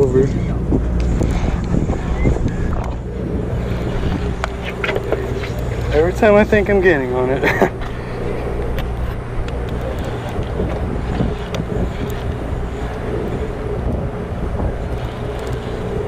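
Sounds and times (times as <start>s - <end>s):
boat motor droning: 0.0s - 16.0s
wind buffeting microphone: 0.0s - 16.0s.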